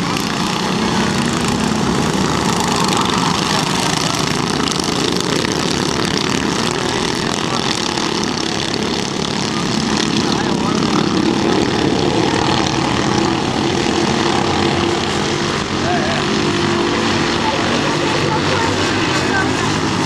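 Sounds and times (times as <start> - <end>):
kart engines droning: 0.0 - 20.0.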